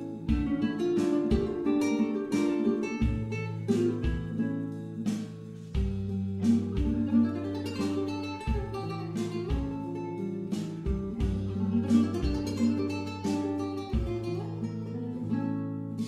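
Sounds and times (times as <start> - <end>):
flamenco-style acoustic guitar: 0.0 - 16.0.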